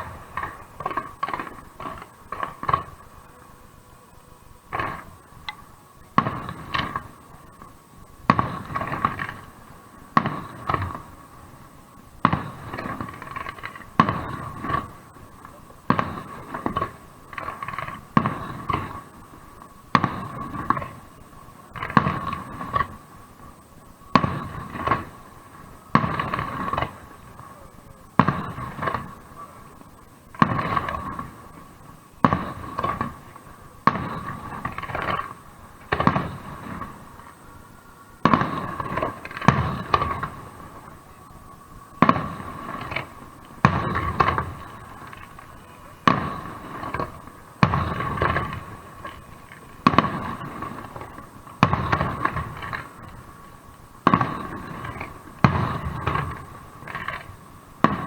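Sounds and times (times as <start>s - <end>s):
firework crackling: 0.0s - 58.0s
firework shells bursting: 0.0s - 58.0s.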